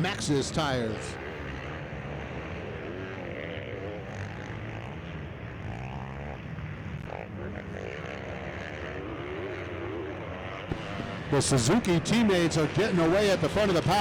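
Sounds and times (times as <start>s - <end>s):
motocross bike engines revving: 0.0s - 14.0s.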